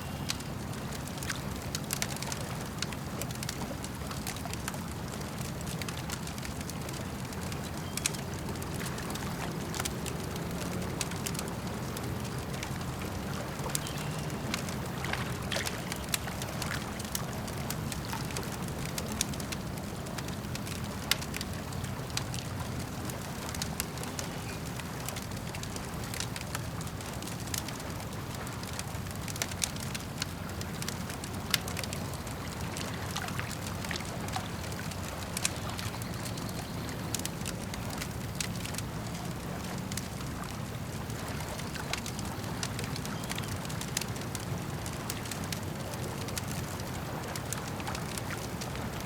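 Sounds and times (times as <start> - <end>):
campfire crackling: 0.0 - 49.0
lake water lapping: 0.0 - 49.0.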